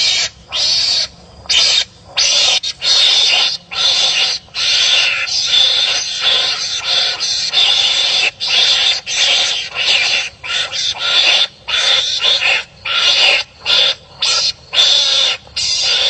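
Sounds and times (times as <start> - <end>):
animals screeching while fighting: 0.0 - 16.0.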